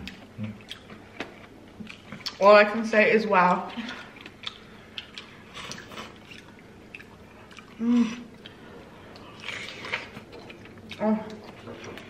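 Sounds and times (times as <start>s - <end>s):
chewing and wet mouth smacks: 0.0s - 2.4s, 3.7s - 12.0s.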